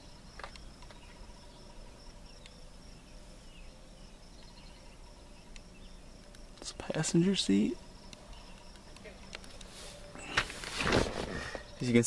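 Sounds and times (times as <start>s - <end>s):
high-pitched insect chirping: 0.0s - 10.7s, 11.3s - 12.0s.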